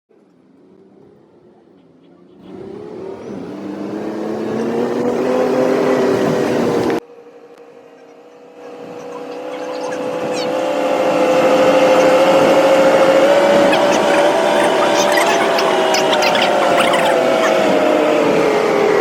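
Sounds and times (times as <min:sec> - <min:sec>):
steady engine hum: 0:00.1 - 0:19.0
engine speeding up: 0:00.2 - 0:19.0.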